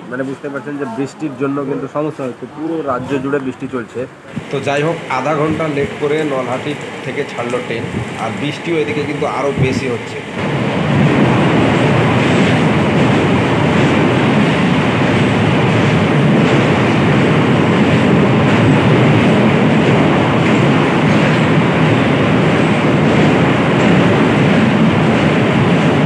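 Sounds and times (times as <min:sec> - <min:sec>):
train wheels rumbling on rails: 0:04.2 - 0:26.0.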